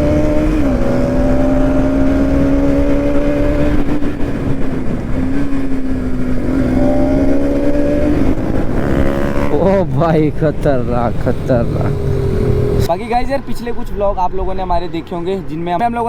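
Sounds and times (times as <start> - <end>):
motorcycle engine running: 0.0 - 13.2
wind rumble on microphone: 0.0 - 15.0.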